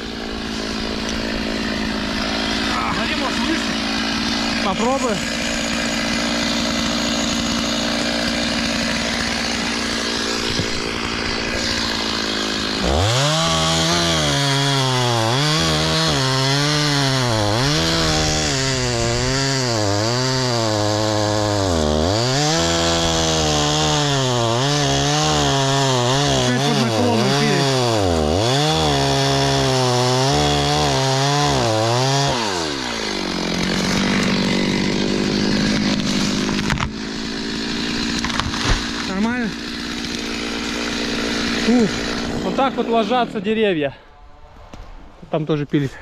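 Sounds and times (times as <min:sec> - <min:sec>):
chainsaw cutting into tree: 0:00.0 - 0:43.8.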